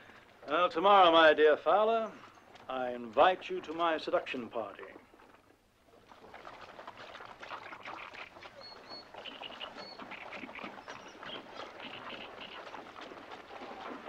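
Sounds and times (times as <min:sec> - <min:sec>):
horses splashing through water: 0:00.0 - 0:14.0.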